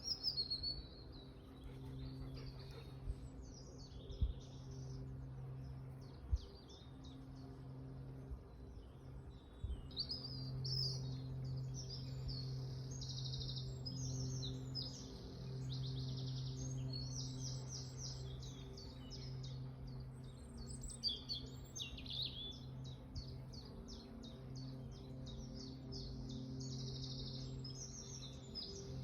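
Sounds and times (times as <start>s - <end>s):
songbirds singing: 0.0s - 29.0s
steady low hum: 0.0s - 29.0s.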